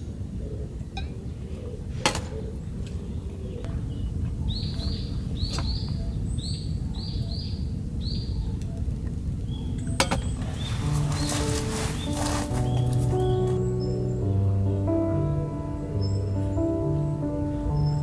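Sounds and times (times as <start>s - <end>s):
outdoor background noise: 0.0s - 18.0s
bird chirping: 1.0s - 18.0s.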